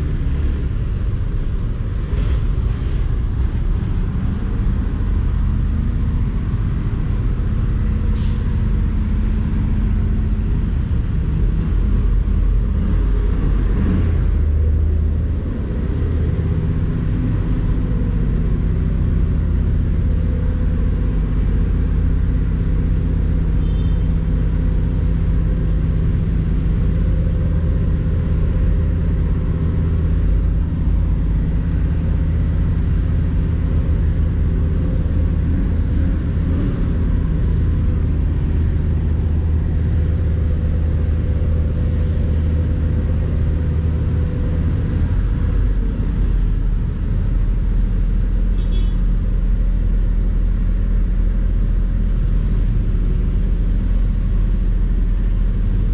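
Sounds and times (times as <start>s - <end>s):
bus engine idling: 0.0s - 55.9s.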